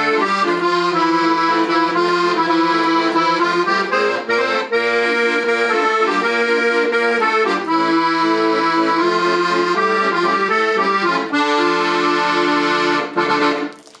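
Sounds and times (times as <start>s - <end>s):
accordion chords: 0.0s - 14.0s.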